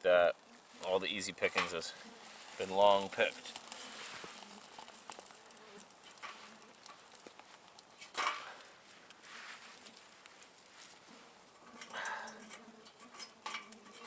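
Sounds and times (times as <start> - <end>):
fire crackling: 0.0 - 14.0
short rustle: 0.4 - 14.0.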